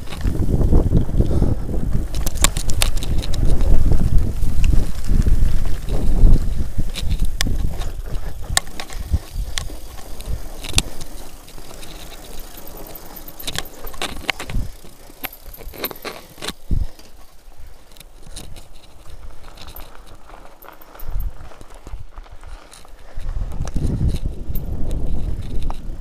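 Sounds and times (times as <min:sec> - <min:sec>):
clicks and knocks from bike frame: 0:00.0 - 0:01.2, 0:01.9 - 0:03.8, 0:04.6 - 0:22.0, 0:22.6 - 0:26.0
mountain bike rattling: 0:00.0 - 0:26.0.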